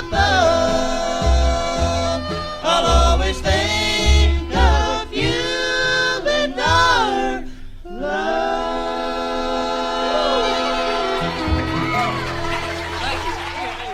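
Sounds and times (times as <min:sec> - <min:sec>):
vocal harmony singing: 0:00.0 - 0:13.0
string bass: 0:00.0 - 0:13.9.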